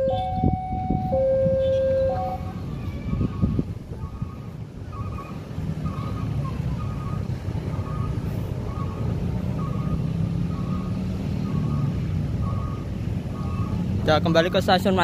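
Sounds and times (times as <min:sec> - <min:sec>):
motorcycle and car traffic rumble: 0:00.0 - 0:15.0.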